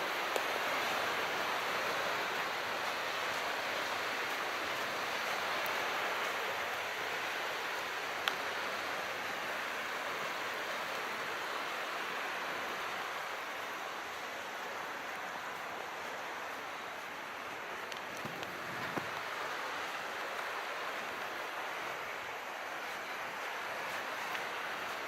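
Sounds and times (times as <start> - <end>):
sea water washing: 0.0 - 25.0.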